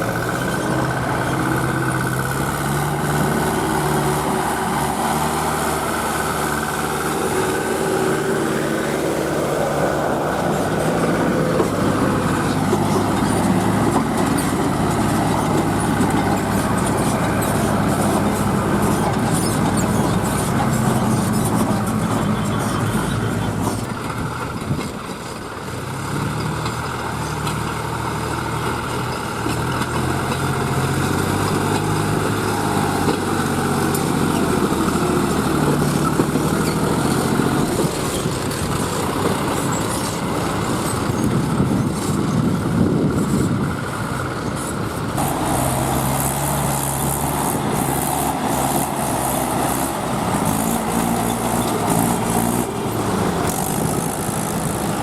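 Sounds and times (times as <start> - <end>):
higher-pitched engine: 0.0 - 55.0
tractor diesel engine revving: 0.0 - 55.0.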